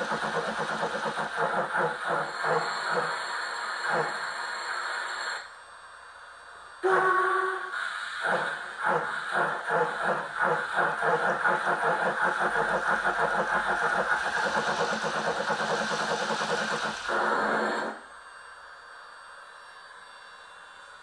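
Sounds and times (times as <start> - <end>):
model steam locomotive chuffing: 0.0 - 5.5, 6.8 - 18.6
steady locomotive sound: 0.0 - 21.0.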